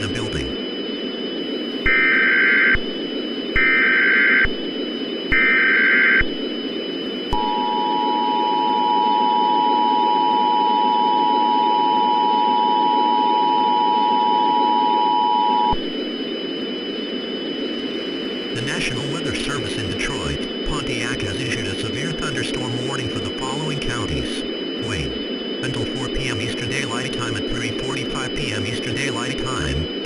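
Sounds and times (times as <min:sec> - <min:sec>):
buzzy digital data tones: 0:00.0 - 0:30.0
faint high steady whine: 0:00.0 - 0:30.0.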